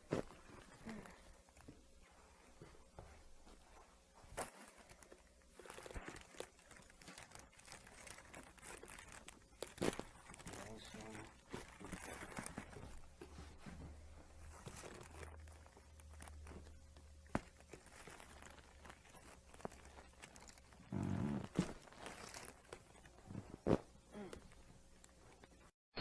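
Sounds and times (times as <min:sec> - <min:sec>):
quiet rustling and handling: 0:00.0 - 0:25.7.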